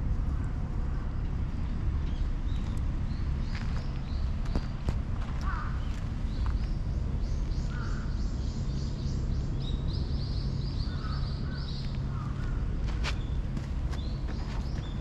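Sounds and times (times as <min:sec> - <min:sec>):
steady low rumble: 0:00.0 - 0:15.0
small birds chirping: 0:00.2 - 0:15.0.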